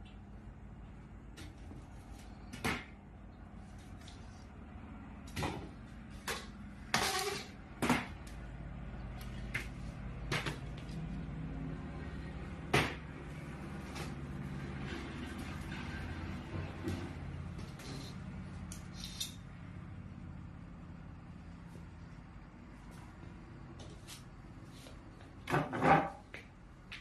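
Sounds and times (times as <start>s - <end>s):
low machine hum: 0.0s - 25.5s.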